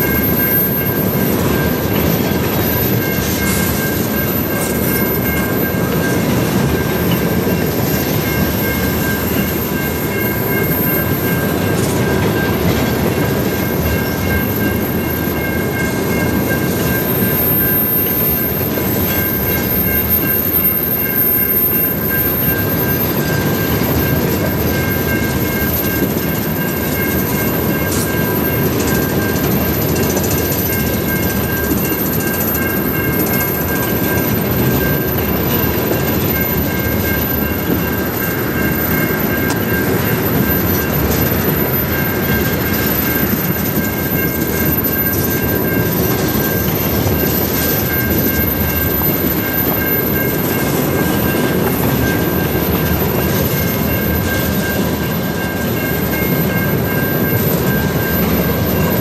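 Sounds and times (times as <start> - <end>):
high-pitched ringing tones: 0.0 - 59.0
train wheels rumbling on rail: 0.0 - 59.0.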